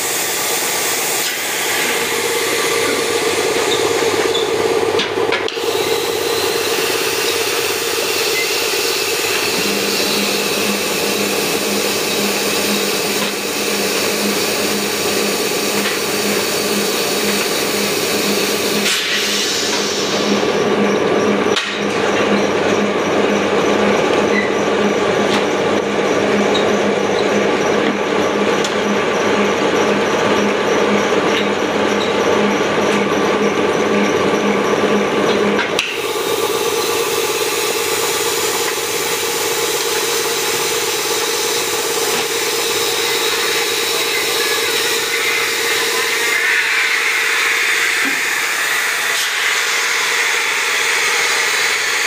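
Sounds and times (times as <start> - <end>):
blow-moulding machine running: 0.0 - 52.0.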